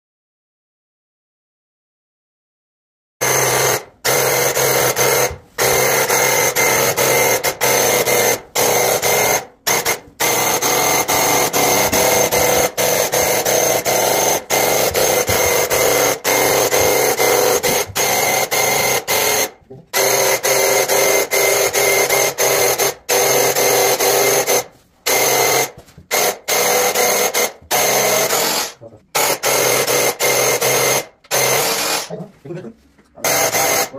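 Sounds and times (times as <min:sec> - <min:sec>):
paint sprayer pump buzzing: 0:03.2 - 0:32.2, 0:33.2 - 0:33.9.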